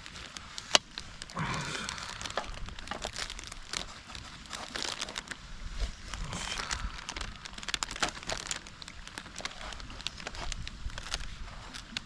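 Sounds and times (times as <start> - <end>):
crinkling and rustling: 0.0 - 12.0.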